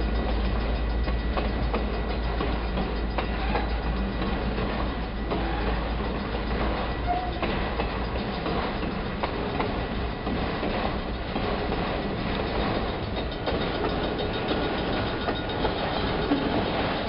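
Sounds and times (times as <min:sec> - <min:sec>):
freight train wheels clicking: 0:00.0 - 0:17.0
train rumble: 0:00.0 - 0:17.0
train wheel squeal: 0:00.0 - 0:17.0.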